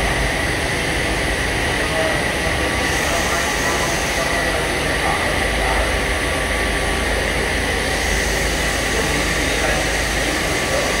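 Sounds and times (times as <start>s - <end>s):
constant high whine: 0.0s - 11.0s
machinery running: 0.0s - 11.0s.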